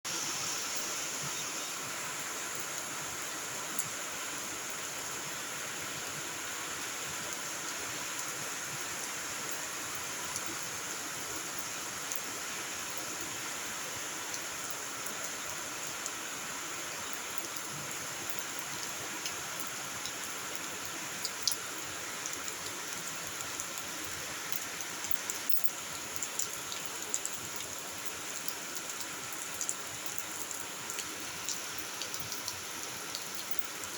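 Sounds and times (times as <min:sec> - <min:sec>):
steady rainfall hiss: 0:00.1 - 0:33.9.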